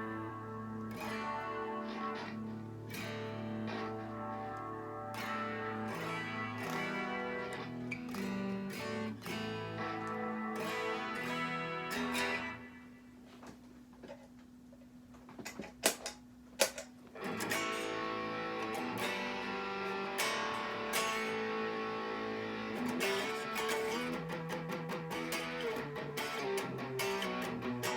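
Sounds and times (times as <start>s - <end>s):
electric guitar chords and notes: 0.0s - 13.6s, 16.6s - 27.9s.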